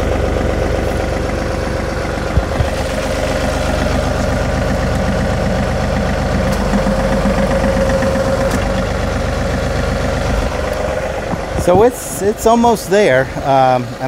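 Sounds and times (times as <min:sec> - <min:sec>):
hydraulic pump whine: 0:00.0 - 0:12.8
tractor diesel engine running: 0:00.0 - 0:14.0.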